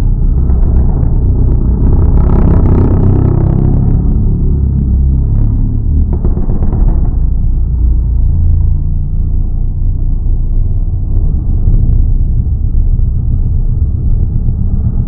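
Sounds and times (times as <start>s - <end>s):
race cars rumbling: 0.0s - 15.0s.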